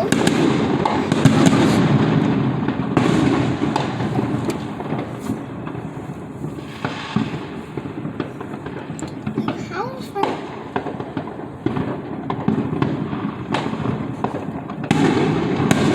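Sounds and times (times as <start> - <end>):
fireworks booming: 0.0 - 15.9
fireworks cracks and pops: 0.0 - 15.9.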